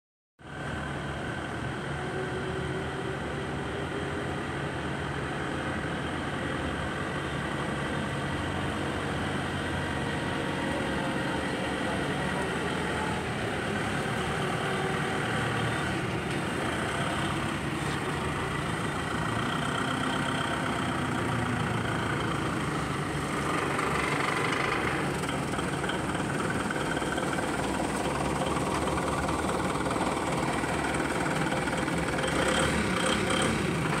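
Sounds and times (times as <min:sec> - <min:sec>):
forklift engine running: 0:00.5 - 0:34.0.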